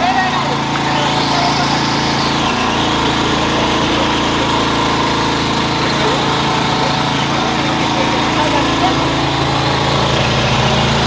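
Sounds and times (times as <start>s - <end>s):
corn mill grinding: 0.0s - 11.0s.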